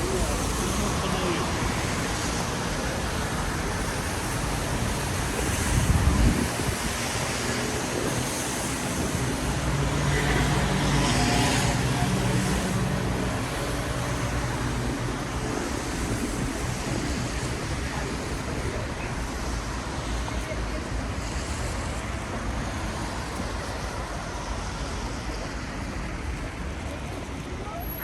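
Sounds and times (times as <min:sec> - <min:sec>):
tyres on wet road: 0:00.0 - 0:28.0.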